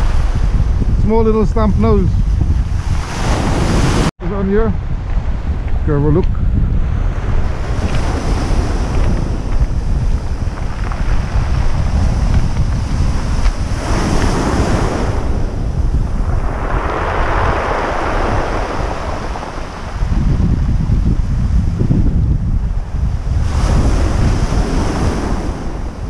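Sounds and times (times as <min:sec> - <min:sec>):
ocean surf breaking: 0:00.0 - 0:04.7, 0:06.8 - 0:26.0
wind buffeting microphone: 0:00.0 - 0:26.0.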